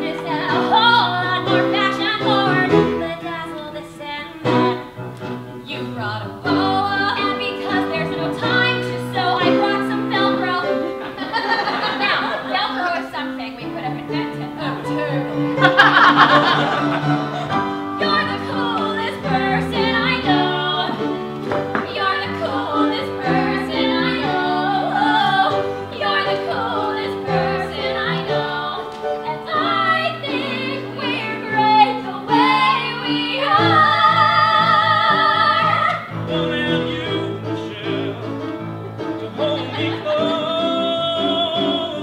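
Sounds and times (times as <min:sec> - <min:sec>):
women singing a duet: 0:00.0 - 0:04.8, 0:05.5 - 0:15.8, 0:17.9 - 0:36.5
instrumental accompaniment: 0:00.0 - 0:42.0.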